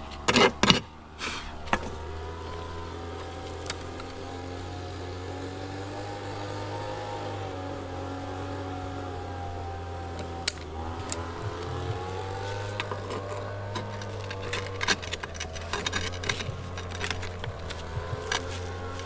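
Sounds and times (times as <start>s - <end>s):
motor hum: 0.0s - 19.0s.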